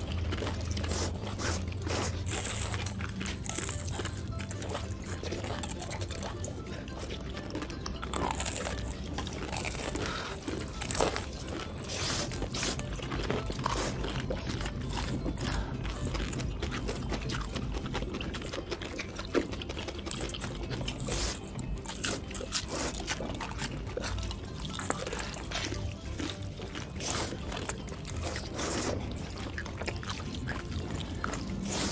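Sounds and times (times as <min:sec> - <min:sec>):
background music: 0:00.0 - 0:31.9
person crunching and chewing: 0:00.0 - 0:31.9.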